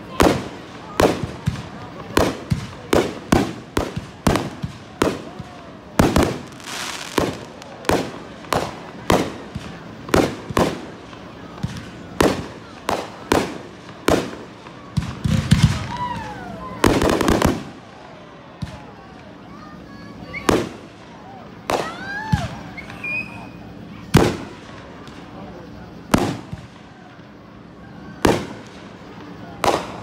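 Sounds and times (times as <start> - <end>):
firework crackling: 0.0 - 30.0.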